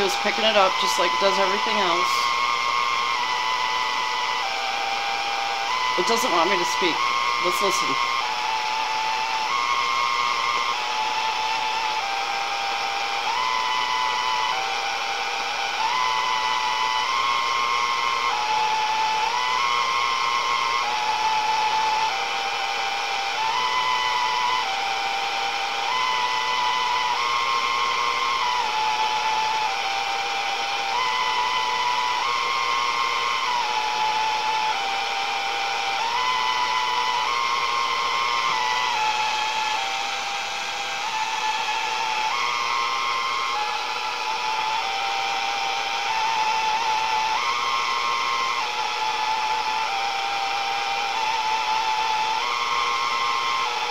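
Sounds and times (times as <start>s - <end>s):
radio static hiss: 0.0s - 53.9s
whistling tone stepping pitches: 0.0s - 53.9s.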